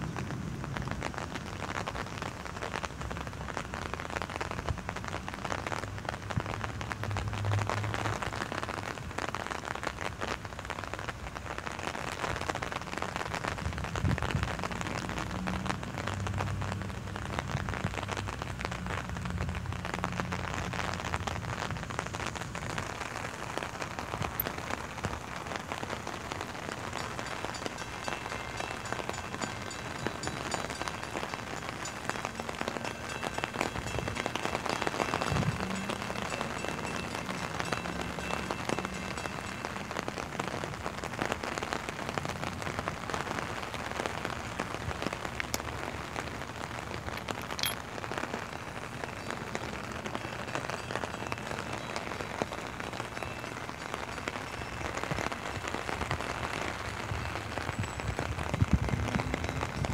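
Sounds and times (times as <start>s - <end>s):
rain on an umbrella: 0.0s - 59.9s.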